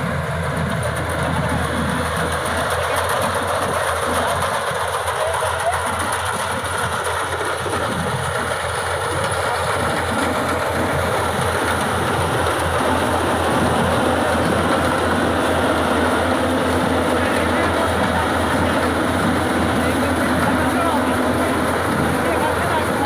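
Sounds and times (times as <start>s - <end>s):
combine harvester engine droning: 0.0s - 23.0s.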